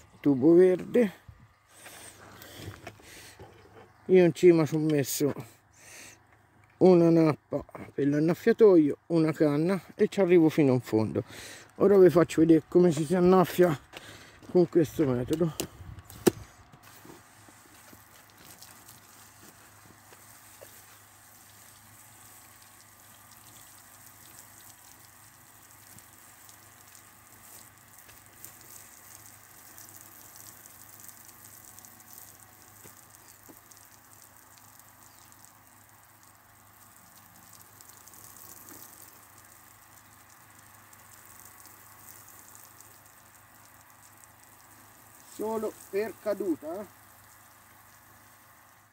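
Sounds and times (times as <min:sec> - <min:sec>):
water spraying onto soil: 0:00.0 - 0:06.3, 0:09.2 - 0:48.9.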